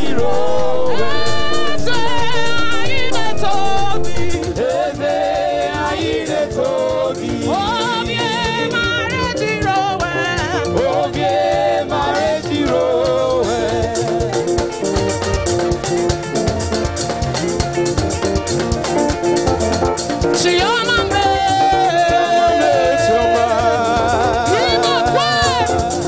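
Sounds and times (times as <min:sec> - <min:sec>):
gospel singing: 0:00.0 - 0:26.0
held chords: 0:00.0 - 0:26.0
shaker-like percussion: 0:00.0 - 0:26.0.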